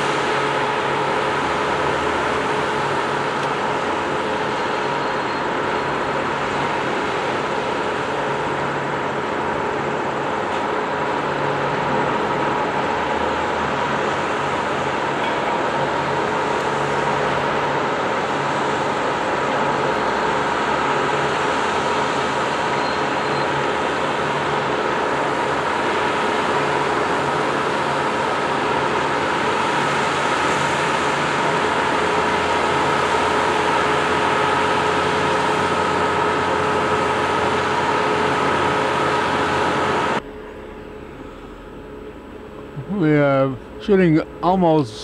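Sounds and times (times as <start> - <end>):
demolition machinery droning: 0.0 - 45.0.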